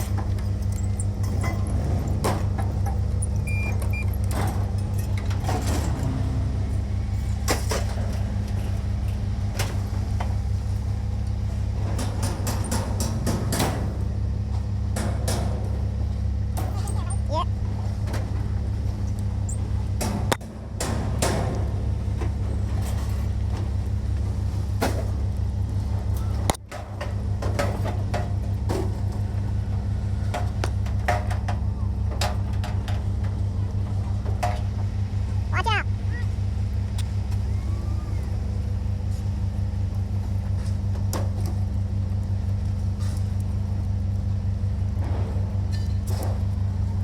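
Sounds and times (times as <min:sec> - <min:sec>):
low engine hum: 0:00.0 - 0:47.0.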